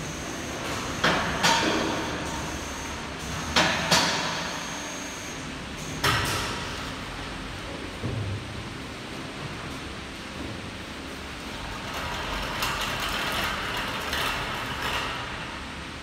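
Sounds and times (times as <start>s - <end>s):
steady workshop hiss: 0.0s - 13.0s.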